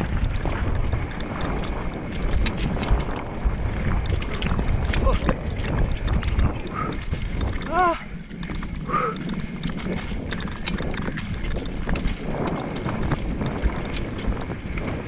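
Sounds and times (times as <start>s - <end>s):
bike clicks and rattles: 0.0s - 15.0s
bike rolling over dirt trail: 0.0s - 15.0s
wind buffeting microphone: 0.0s - 15.0s.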